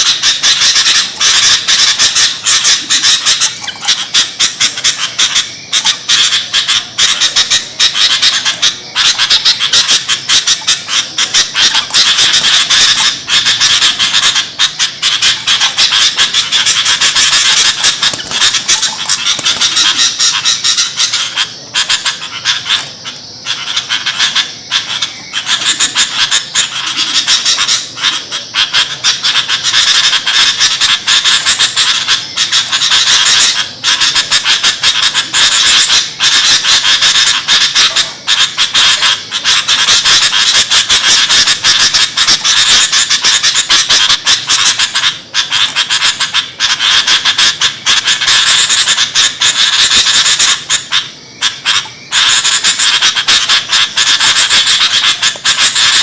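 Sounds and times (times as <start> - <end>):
bulbuls chattering: 0.0 - 56.0.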